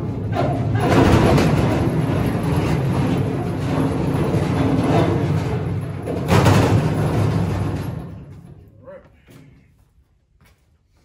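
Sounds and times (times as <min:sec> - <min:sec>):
casters rolling on concrete: 0:00.0 - 0:09.8.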